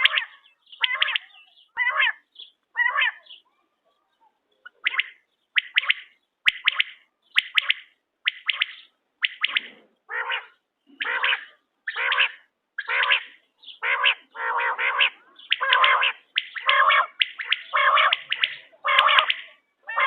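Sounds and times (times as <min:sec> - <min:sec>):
quail calling: 0:00.0 - 0:03.5, 0:04.6 - 0:20.0.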